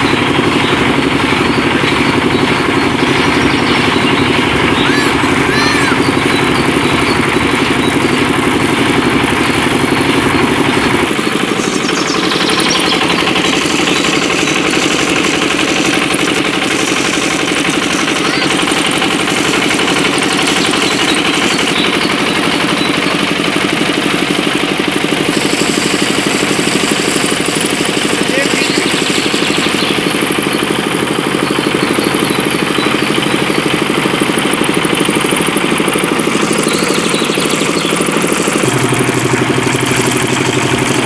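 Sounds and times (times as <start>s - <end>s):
small engine running steadily: 0.0s - 41.0s.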